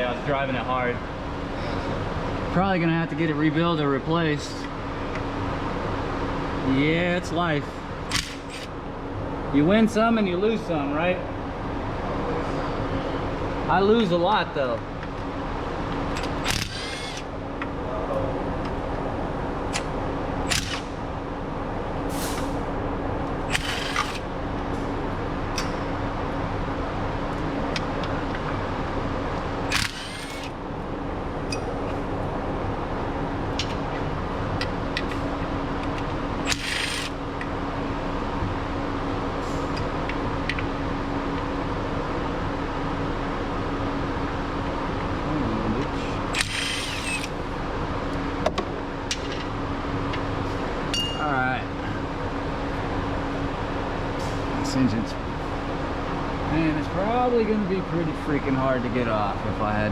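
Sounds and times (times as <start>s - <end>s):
shop background hum: 0.0s - 59.9s.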